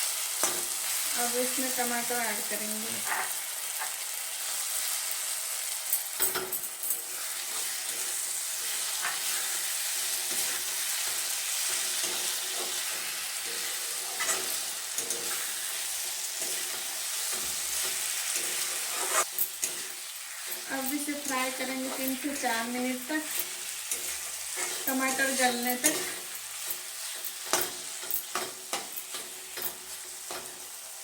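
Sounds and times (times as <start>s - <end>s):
food sizzling in hot oil: 0.0s - 31.0s
spatula scraping a pan: 3.0s - 4.0s, 7.0s - 31.0s.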